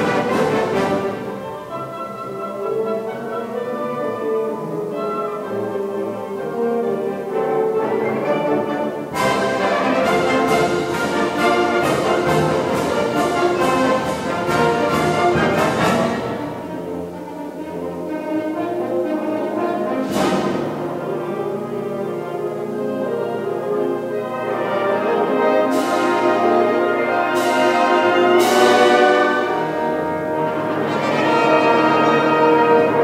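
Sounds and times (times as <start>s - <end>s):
french horns holding chords: 0.0s - 33.0s
wind band playing: 0.0s - 33.0s.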